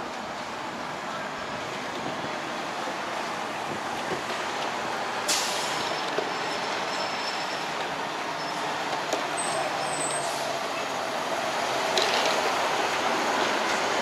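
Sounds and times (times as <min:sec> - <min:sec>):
passing cars and truck: 0:00.0 - 0:14.0.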